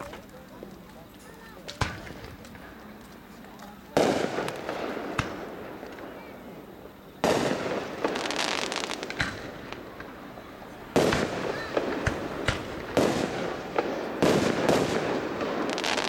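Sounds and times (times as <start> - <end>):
fireworks bursting with crackling: 0.0 - 16.0
small firework pops: 0.0 - 16.0.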